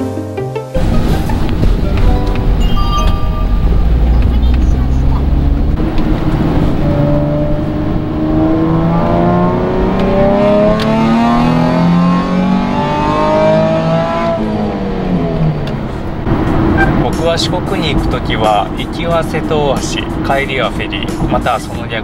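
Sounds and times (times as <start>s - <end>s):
car engine accelerating: 0.8s - 22.0s.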